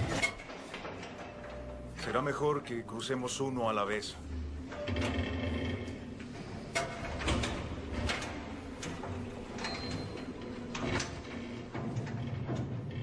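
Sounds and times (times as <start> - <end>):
footsteps on metal walkway: 0.0 - 3.0, 3.9 - 13.0
metal structure knocking and creaking: 0.0 - 3.0, 4.2 - 13.0.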